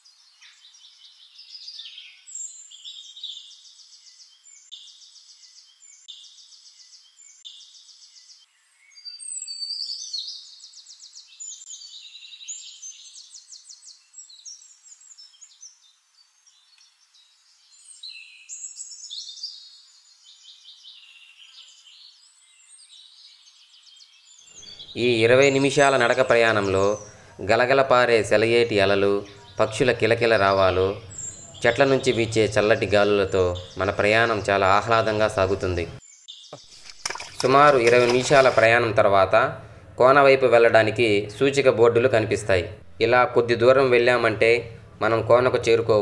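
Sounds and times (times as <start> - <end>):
birds chirping and trilling: 0.0 - 46.0.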